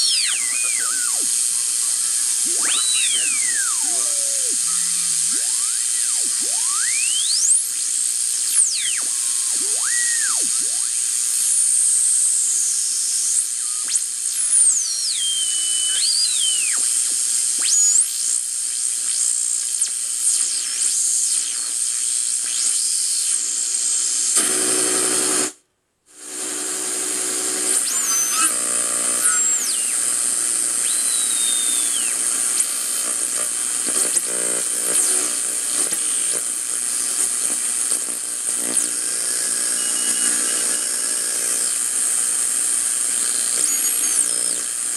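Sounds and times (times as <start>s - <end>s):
sliding radio whistling tones: 0.0s - 25.4s, 26.4s - 44.9s
radio static hiss: 0.0s - 44.9s.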